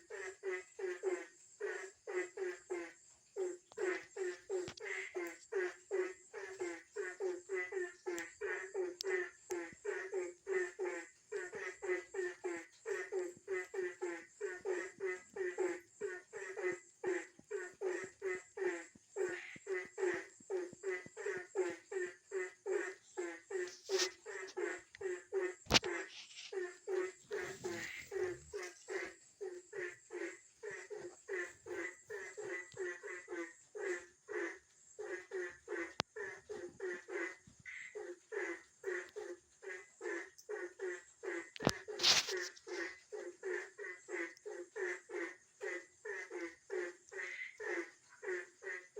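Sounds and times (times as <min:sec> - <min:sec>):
frog croaking: 0:00.0 - 0:48.9.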